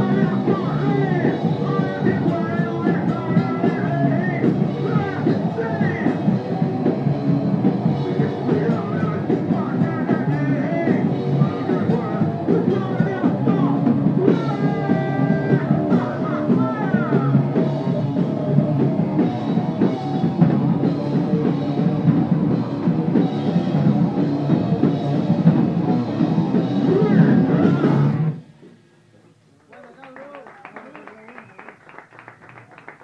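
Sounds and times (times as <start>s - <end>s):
distorted electric guitar: 0.0s - 28.8s
drum kit: 0.0s - 28.8s.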